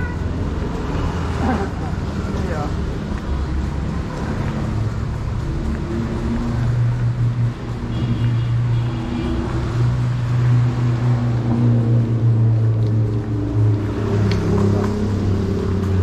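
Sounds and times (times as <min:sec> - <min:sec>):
street ambience: 0:00.0 - 0:16.0
vehicle engine running: 0:00.0 - 0:16.0.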